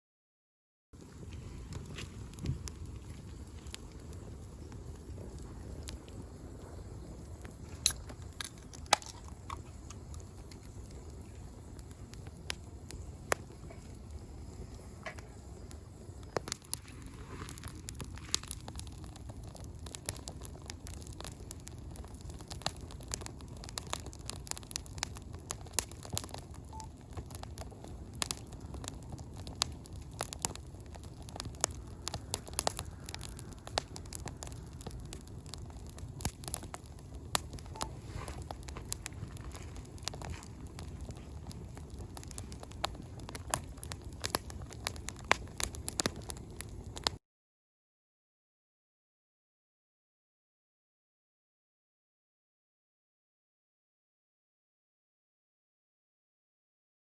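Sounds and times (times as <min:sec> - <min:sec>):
campfire crackling and popping: 0:01.0 - 0:47.2.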